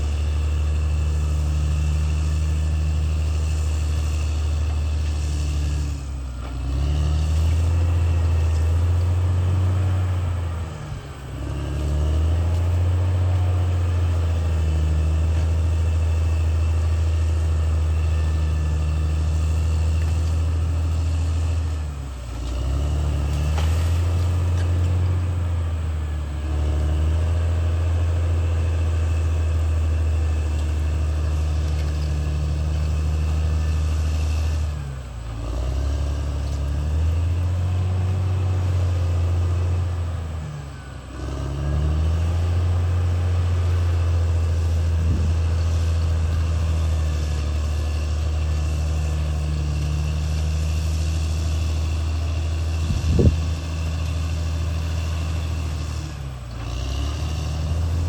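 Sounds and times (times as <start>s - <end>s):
bulldozer diesel engine drone: 0.0s - 58.0s.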